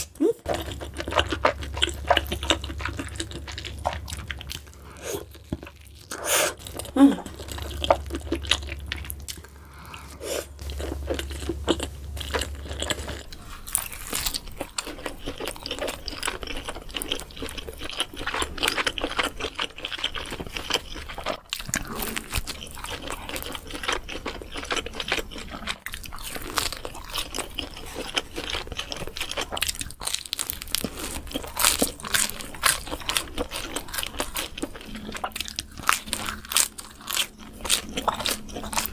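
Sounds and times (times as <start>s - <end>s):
crunchy bites and chewing: 0.0s - 38.9s.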